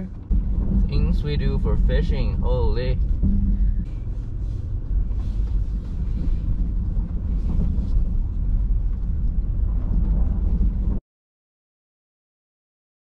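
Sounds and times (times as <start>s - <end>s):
truck tyres and engine rumble: 0.0s - 11.0s.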